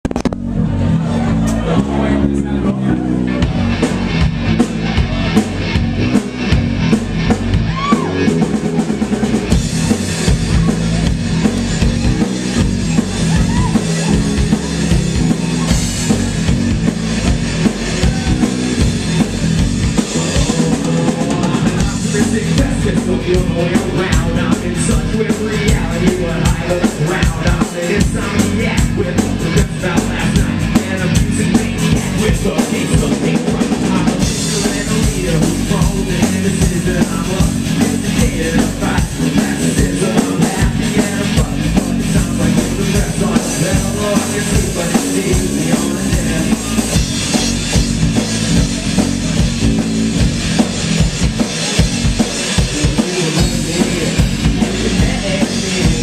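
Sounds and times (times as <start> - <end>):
rock band playing live: 0.0 - 56.0
drum kit beat: 2.9 - 56.0.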